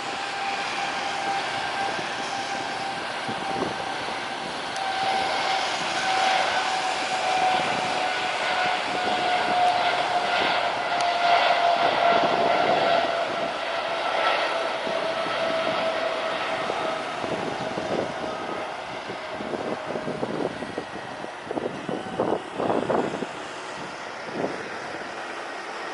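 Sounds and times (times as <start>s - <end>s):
jet engines whining: 0.0s - 25.9s.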